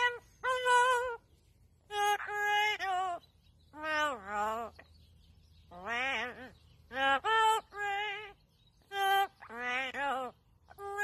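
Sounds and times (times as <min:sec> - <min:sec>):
parrot singing melodic phrases: 0:00.0 - 0:11.0.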